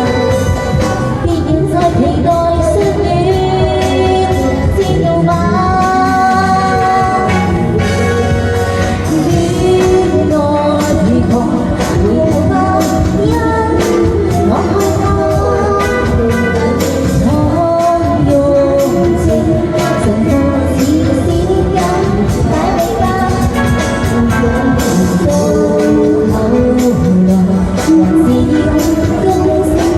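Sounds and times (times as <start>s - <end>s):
backing music with beat: 0.0s - 29.9s
woman singing pop song: 0.0s - 29.9s.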